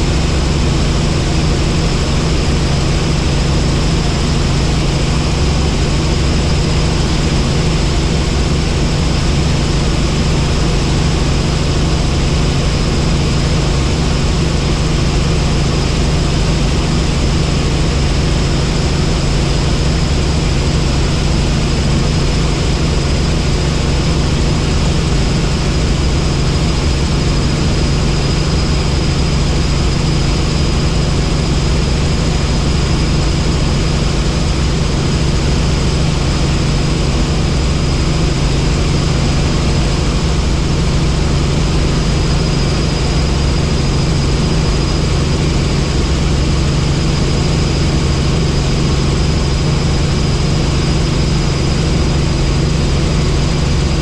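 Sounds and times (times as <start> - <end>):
helicopter rotor drone: 0.0 - 54.0
high steady whine: 0.0 - 54.0.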